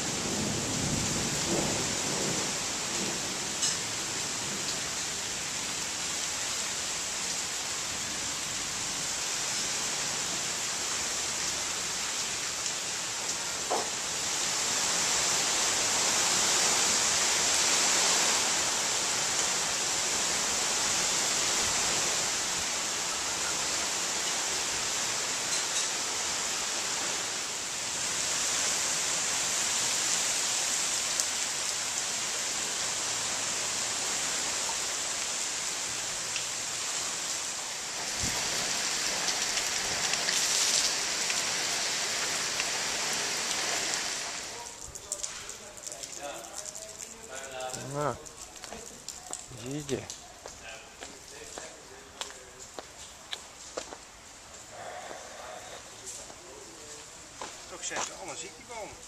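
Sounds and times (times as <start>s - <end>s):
heavy rain through foliage: 0.0s - 59.0s.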